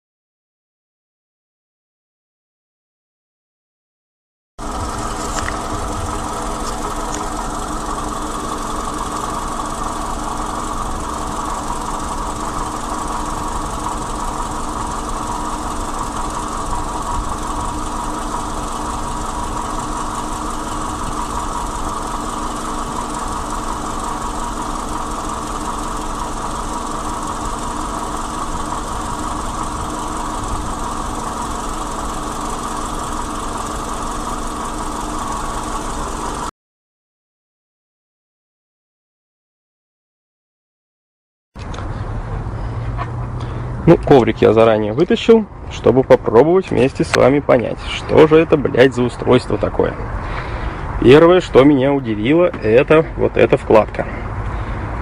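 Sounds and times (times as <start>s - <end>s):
car engine idling: 4.6s - 36.5s, 41.6s - 55.0s.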